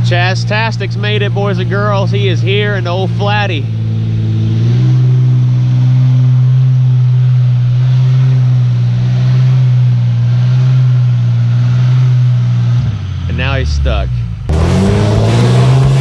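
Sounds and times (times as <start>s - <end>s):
truck engine at high revs: 0.0s - 16.0s.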